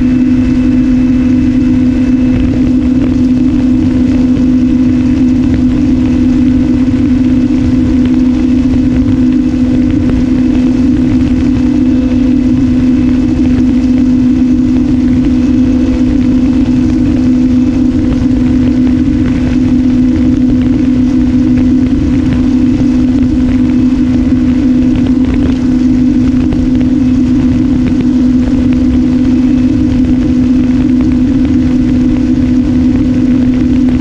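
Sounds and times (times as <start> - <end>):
electric motor and propeller: 0.0 - 34.0
wind rumbling on camera: 0.0 - 34.0.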